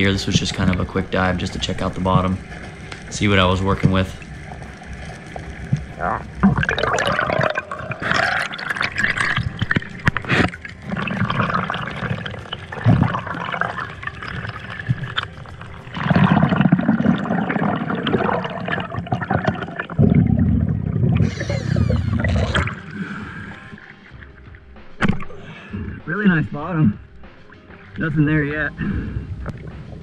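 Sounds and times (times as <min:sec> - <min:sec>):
water gurgling and rushing: 0:00.0 - 0:30.0.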